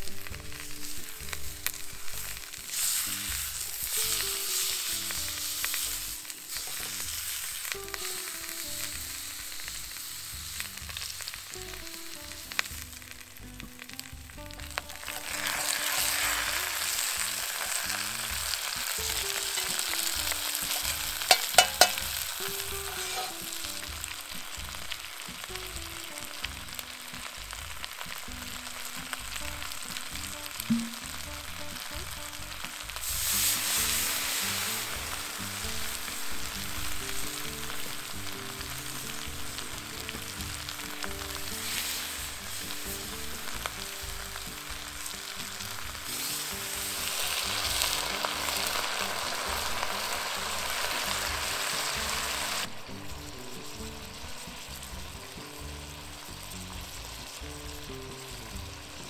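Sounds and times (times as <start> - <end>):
food sizzling over fire: 0.0 - 59.0.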